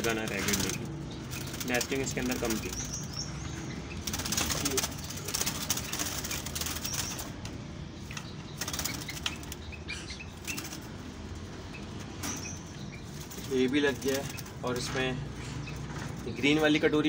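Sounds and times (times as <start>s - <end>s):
fluttering and rattling in wire cage: 0.0s - 17.0s.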